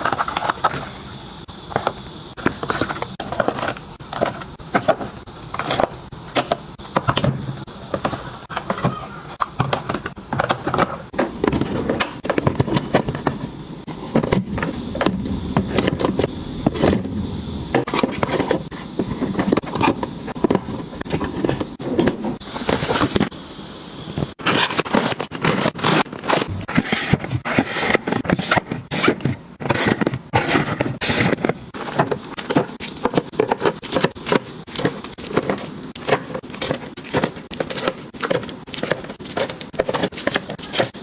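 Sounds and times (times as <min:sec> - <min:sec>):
items tapping and clicking: 0:00.0 - 0:01.0, 0:01.6 - 0:23.4, 0:24.2 - 0:41.0.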